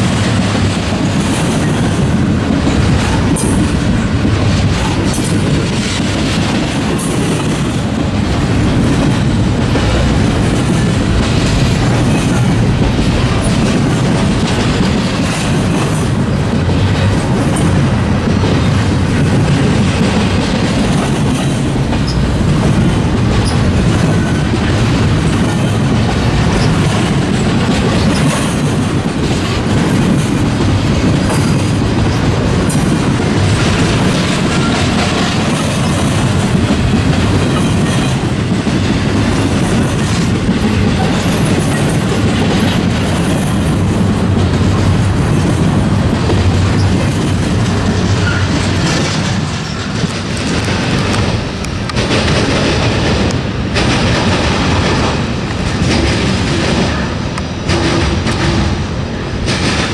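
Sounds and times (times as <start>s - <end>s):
train wheels clattering over rail joints: 0.0s - 59.9s.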